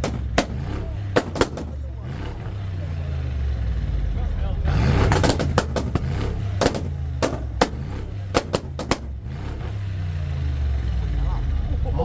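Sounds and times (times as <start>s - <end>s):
exhaust pops and bangs: 0.0s - 10.4s
sports car engine idling: 0.0s - 12.0s.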